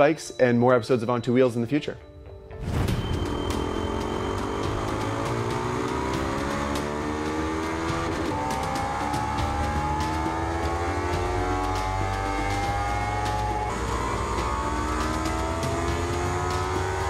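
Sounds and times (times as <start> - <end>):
motorcycle engine accelerating: 2.9 - 17.0.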